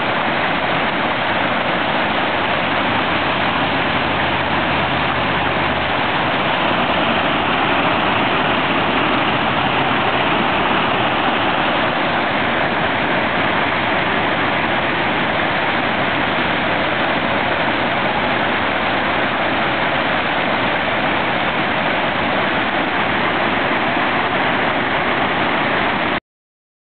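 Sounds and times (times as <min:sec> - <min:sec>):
floodwater rushing: 0:00.0 - 0:26.2.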